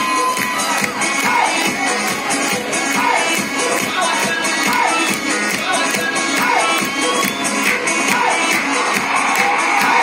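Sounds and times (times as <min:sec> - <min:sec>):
dance music over loudspeakers: 0:00.0 - 0:10.0.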